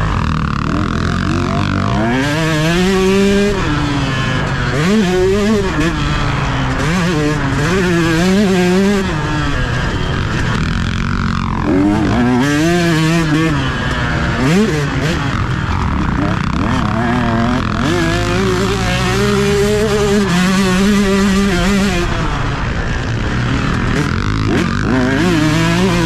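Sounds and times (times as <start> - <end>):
motocross bike engine revving: 0.0 - 26.0
track noise: 0.0 - 26.0.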